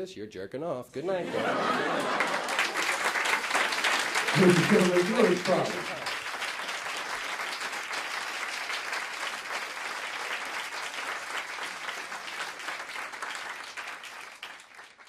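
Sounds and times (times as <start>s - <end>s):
audience applauding: 1.3s - 15.0s.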